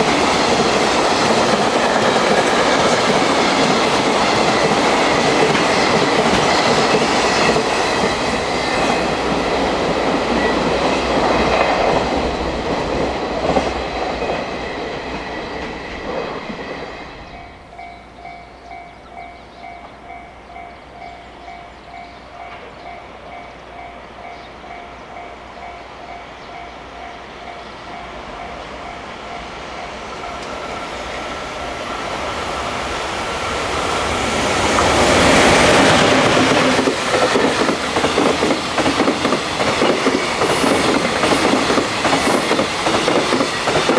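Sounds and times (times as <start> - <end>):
freight train rumbling and clattering: 0.0 - 20.8, 21.4 - 43.9.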